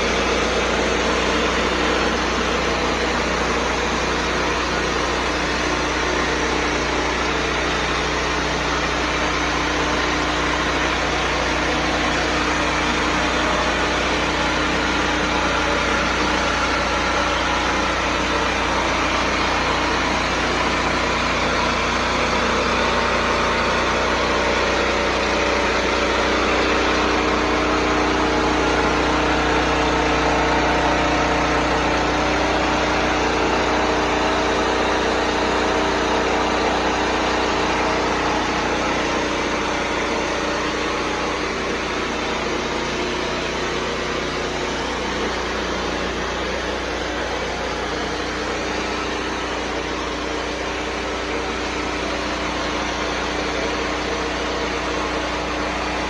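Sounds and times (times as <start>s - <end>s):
pressure washer engine running: 0.0s - 56.0s.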